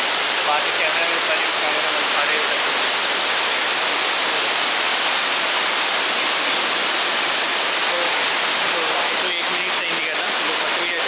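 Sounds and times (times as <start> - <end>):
rush of falling water: 0.0 - 11.0.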